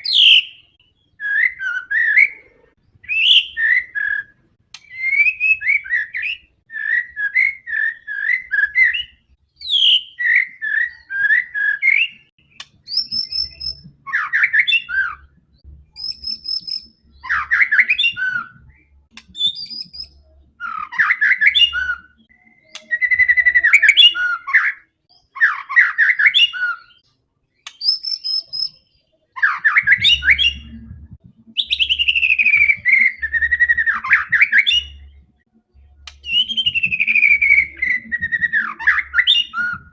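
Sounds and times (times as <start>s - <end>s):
bird singing loud whistles: 0.0s - 15.3s, 16.0s - 18.7s, 19.3s - 27.0s, 27.6s - 28.8s, 31.6s - 35.2s, 36.2s - 39.9s.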